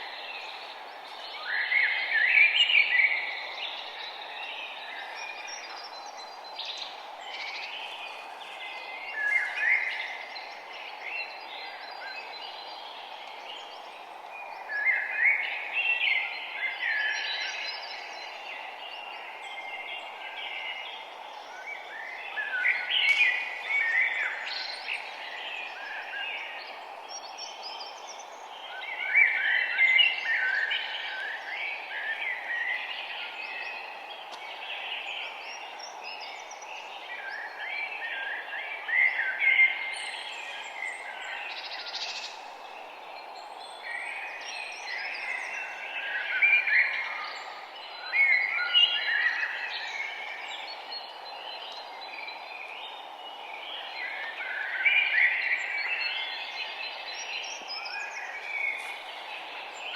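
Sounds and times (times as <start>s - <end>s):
songbirds chirping and singing: 0.0s - 59.9s
steady low hiss: 0.0s - 59.9s.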